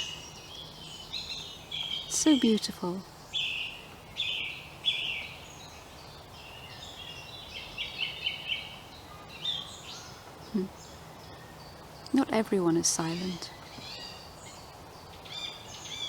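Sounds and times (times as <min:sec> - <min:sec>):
faint background hush: 0:00.0 - 0:15.9
songbird singing: 0:00.0 - 0:16.0.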